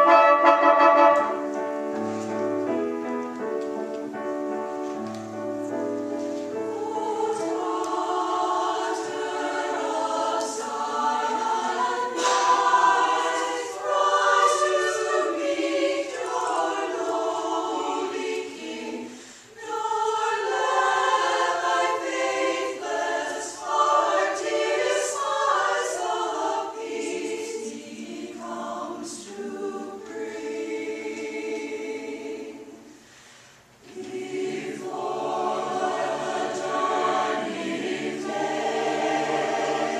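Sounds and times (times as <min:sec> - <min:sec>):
choir singing: 0:00.0 - 0:02.2, 0:06.4 - 0:33.1, 0:33.8 - 0:39.9.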